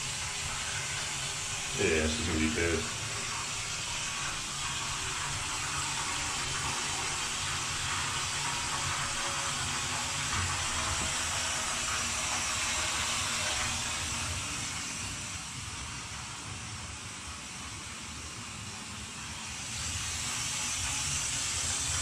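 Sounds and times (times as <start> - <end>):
tap water filling metal tub: 0.0 - 17.5, 19.3 - 22.0.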